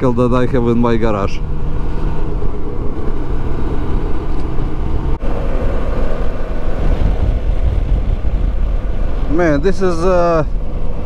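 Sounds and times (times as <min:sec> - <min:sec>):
wind noise on microphone: 0:01.5 - 0:11.0.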